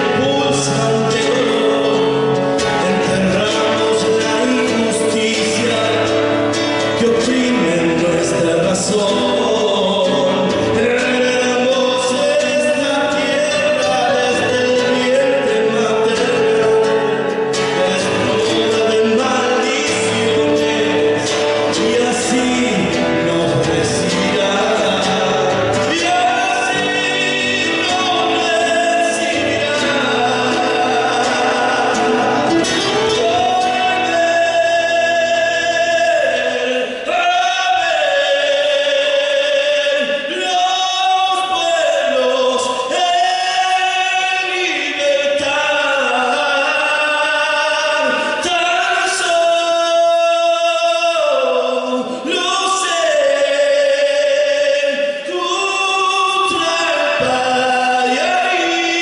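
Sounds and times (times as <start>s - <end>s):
male voices singing in harmony: 0.0s - 59.0s.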